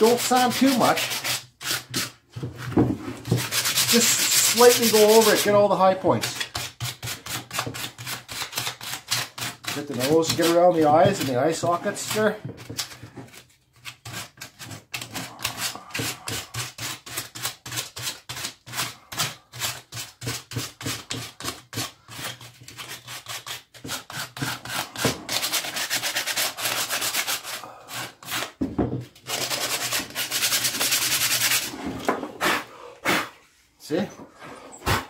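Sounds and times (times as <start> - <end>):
sandpaper rubbing on wood: 0.0 - 2.2, 3.2 - 12.3, 14.0 - 28.6, 29.3 - 31.8.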